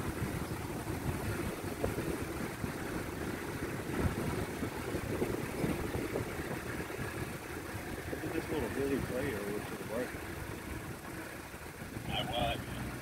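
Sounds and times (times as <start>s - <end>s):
vehicle engine running low: 0.0s - 13.0s
wheels bumping over rough ground: 0.0s - 13.0s.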